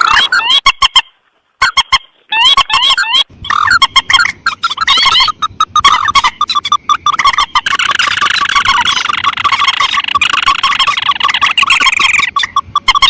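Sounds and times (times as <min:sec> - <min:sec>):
rails and crakes calling: 0:00.0 - 0:13.0.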